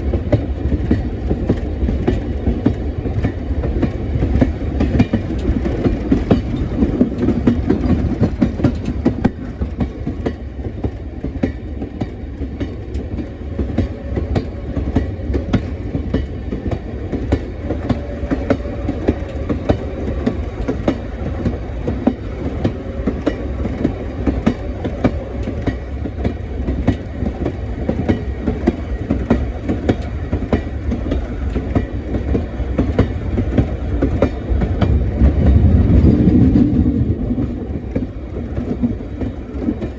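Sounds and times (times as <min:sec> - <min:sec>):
train rumbling: 0:00.0 - 0:39.9
wheels click-clack over rail joints: 0:00.0 - 0:39.9.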